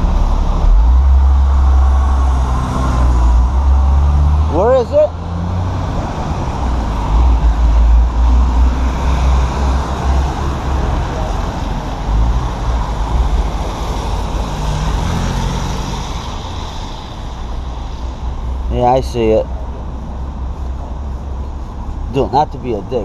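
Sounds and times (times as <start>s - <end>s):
road noise hiss: 0.0s - 23.0s
street traffic rumble: 0.0s - 23.0s.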